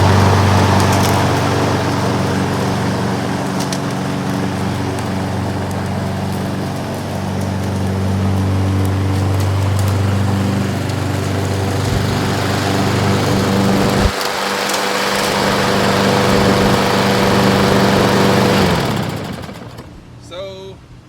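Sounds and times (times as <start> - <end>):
lawn mower engine running: 0.0 - 20.2.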